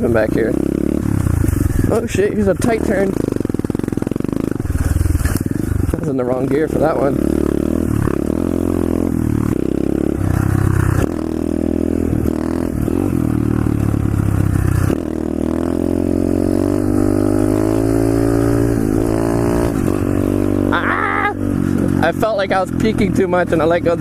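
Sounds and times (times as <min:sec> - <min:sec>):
pit bike engine revving: 0:00.0 - 0:24.0.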